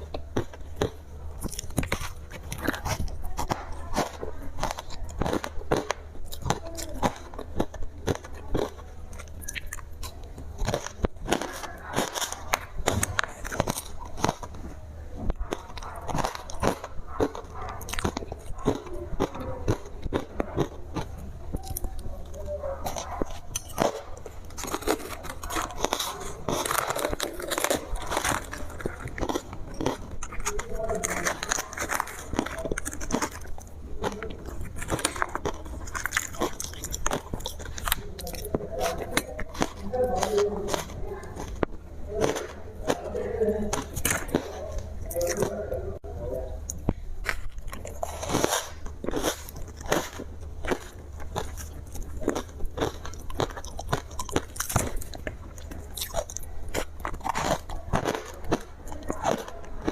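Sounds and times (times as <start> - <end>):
ice being bitten and crunched: 0.0 - 45.6, 46.7 - 59.9.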